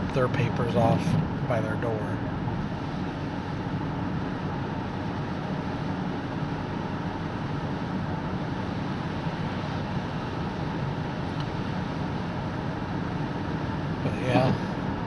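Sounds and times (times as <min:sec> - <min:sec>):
car rumbling: 0:00.0 - 0:15.0.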